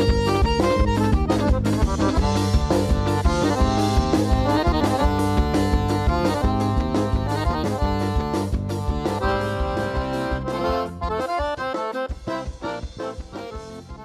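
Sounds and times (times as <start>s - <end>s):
accordion melody with bass and beat: 0.0s - 14.0s.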